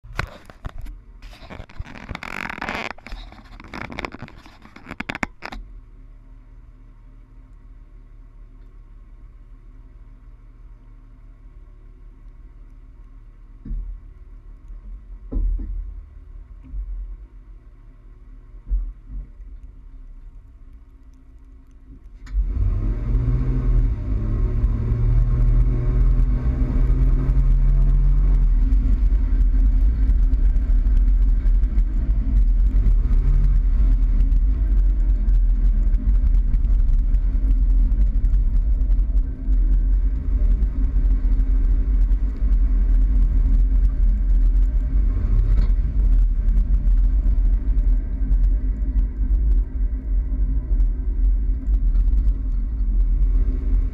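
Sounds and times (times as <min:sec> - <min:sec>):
pickup truck engine rumble: 0:00.0 - 0:53.9.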